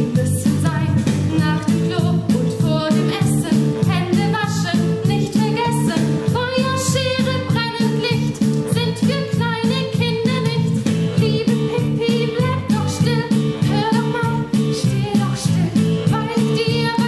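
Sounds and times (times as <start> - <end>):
band accompaniment: 0.0 - 17.0
woman singing: 0.0 - 17.0.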